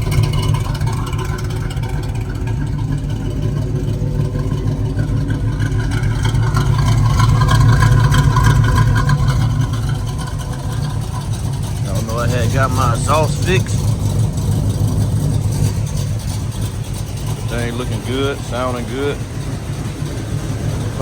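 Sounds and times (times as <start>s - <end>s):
car engine loping idle: 0.0s - 21.0s.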